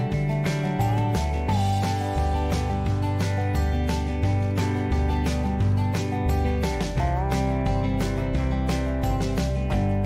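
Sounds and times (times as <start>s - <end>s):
country music with strummed guitar: 0.0s - 10.0s.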